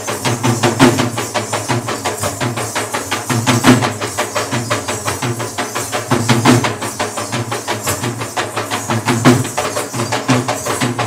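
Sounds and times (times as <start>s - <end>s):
fast steady drumming: 0.0s - 11.0s.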